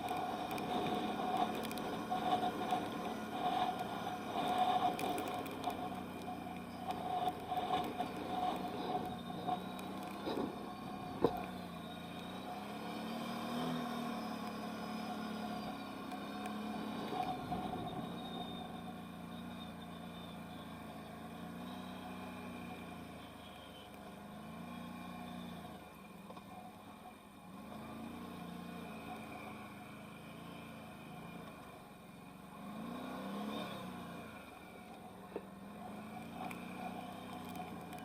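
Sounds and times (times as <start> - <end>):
atv engine revving: 0.0 - 26.0, 27.5 - 38.0.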